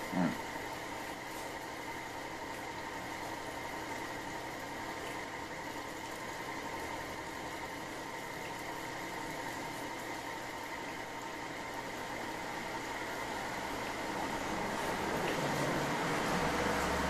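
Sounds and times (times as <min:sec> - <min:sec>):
machine humming with high whine: 0:00.0 - 0:17.0.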